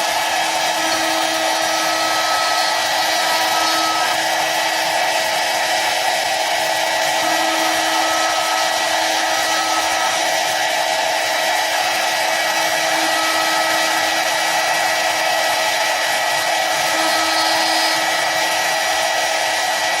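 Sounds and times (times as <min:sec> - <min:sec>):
lathe machine whine: 0:00.0 - 0:20.0.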